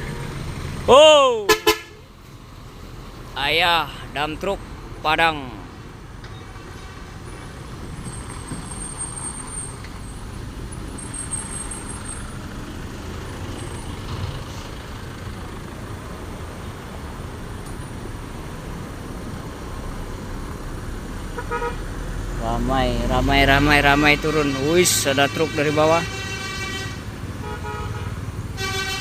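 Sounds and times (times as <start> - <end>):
heavy truck engine passing: 0.0 - 29.0
traffic rumble: 0.0 - 29.0.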